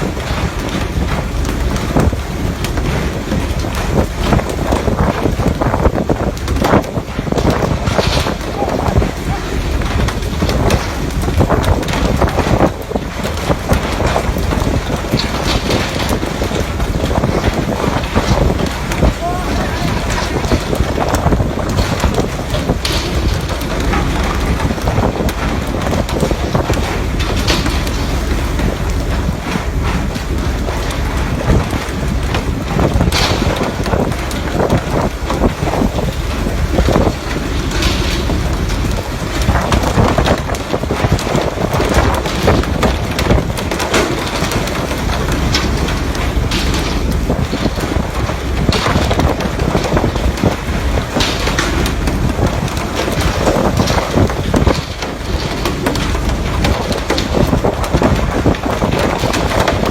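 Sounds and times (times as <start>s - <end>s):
steady low rumble: 0.0s - 59.9s
wind buffeting microphone: 0.0s - 59.9s.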